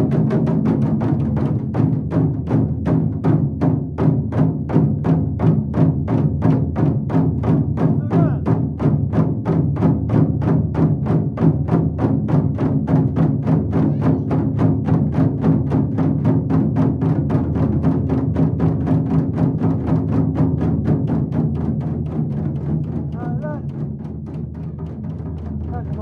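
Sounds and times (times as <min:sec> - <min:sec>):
taiko drums beating steadily: 0:00.0 - 0:26.0.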